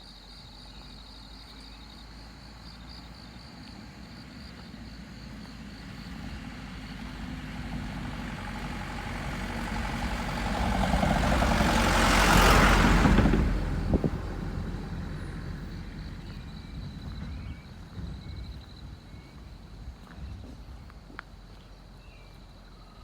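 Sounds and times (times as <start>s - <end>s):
motor vehicle passing: 2.2s - 21.9s.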